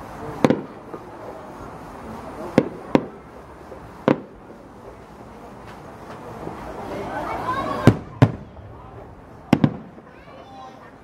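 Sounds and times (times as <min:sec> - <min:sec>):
fireworks bangs: 0:00.0 - 0:01.4, 0:02.1 - 0:11.0.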